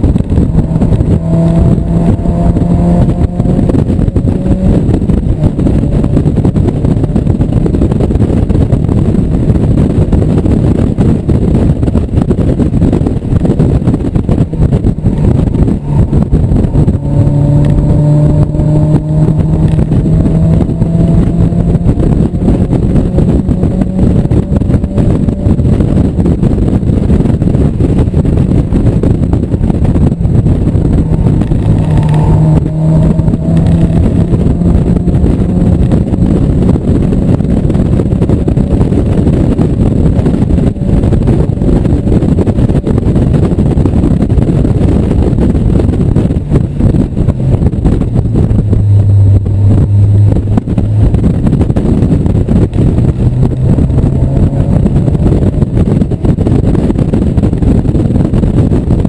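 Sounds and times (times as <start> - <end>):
car engine running hard: 0.0 - 59.0
wind noise: 0.0 - 59.0.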